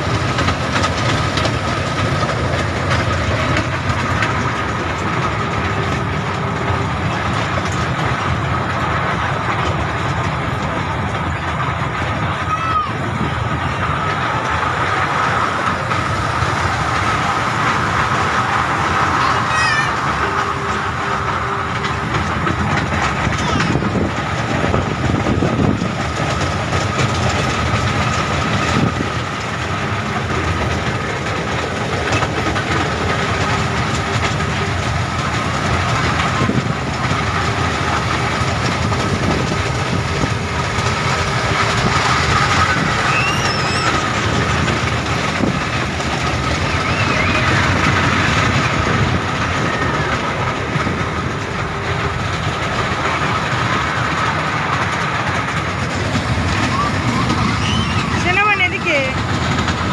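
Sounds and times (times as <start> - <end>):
ride car running noise: 0.0 - 59.9.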